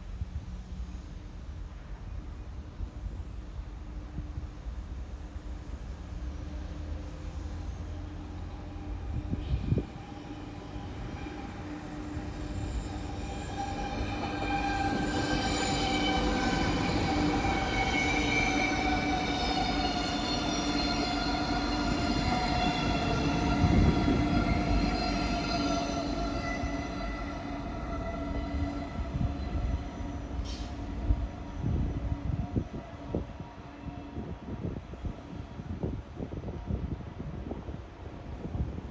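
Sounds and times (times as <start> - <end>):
electric train rumble and whine: 0.0 - 38.9.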